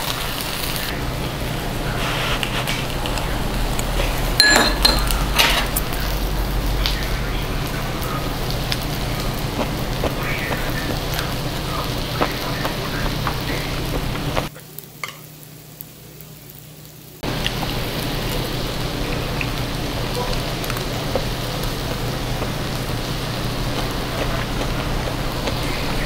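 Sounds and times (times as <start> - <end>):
meat sizzling on a grill plate: 0.0 - 26.0.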